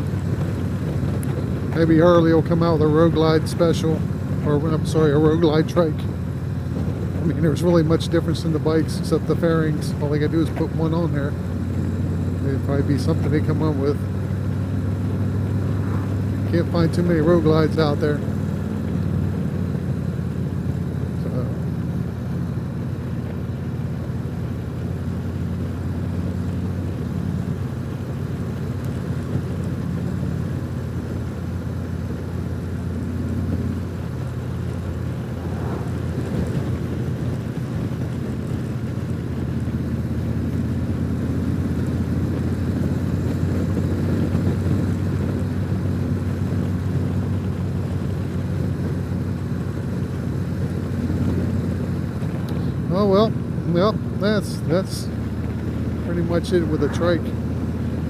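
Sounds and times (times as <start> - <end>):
motorcycle engine droning: 0.0 - 58.0.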